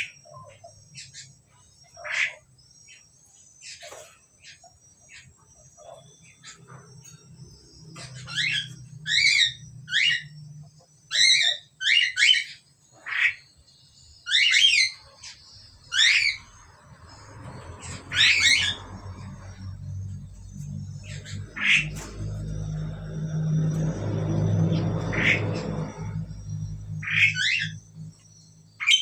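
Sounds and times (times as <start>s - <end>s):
starling whistled calls: 0.0s - 29.0s.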